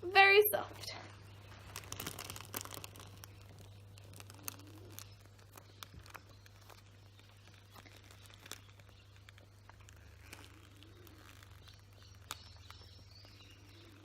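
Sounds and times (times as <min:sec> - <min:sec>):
steady low hum: 0:00.0 - 0:14.0
plastic packaging crinkling: 0:00.8 - 0:14.0.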